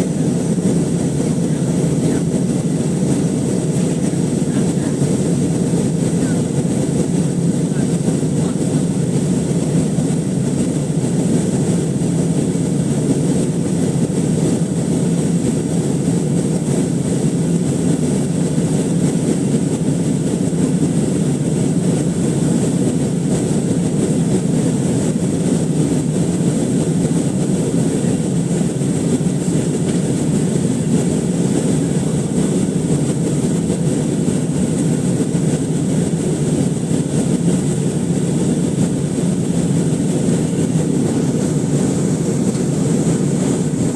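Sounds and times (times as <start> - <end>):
airplane cabin engine and air noise: 0.0 - 43.9.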